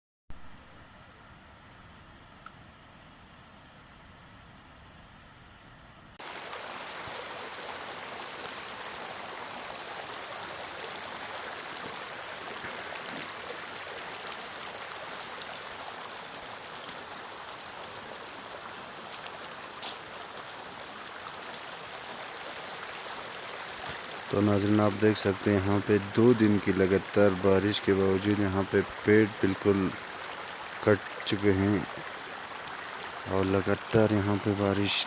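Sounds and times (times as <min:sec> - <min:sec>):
stream rushing water: 0:06.2 - 0:35.0.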